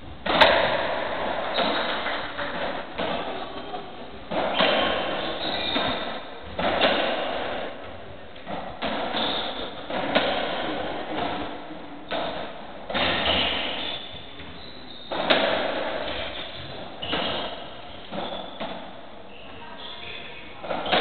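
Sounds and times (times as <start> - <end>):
ball hitting walls with echo: 0.0 - 21.0
ball struck by rackets: 0.2 - 3.2, 4.3 - 19.0.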